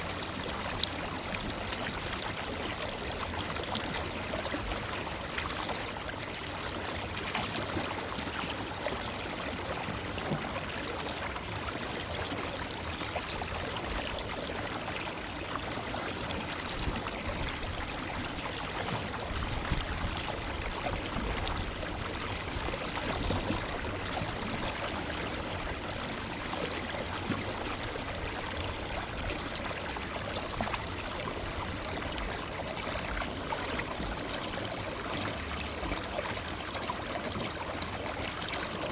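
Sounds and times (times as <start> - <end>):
water gurgling: 0.0 - 38.9.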